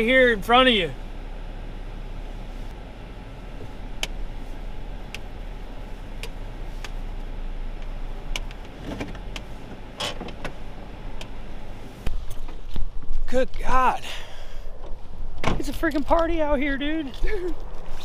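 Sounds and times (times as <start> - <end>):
car engine hum: 0.0 - 18.0.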